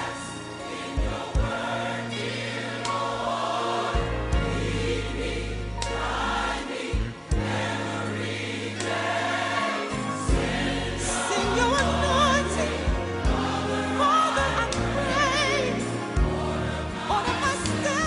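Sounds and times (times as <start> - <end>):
choir singing with vibrato: 0.0 - 18.0.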